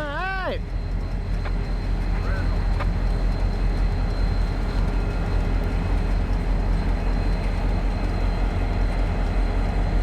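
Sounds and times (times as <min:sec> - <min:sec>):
diesel locomotives rumbling: 0:00.0 - 0:10.0.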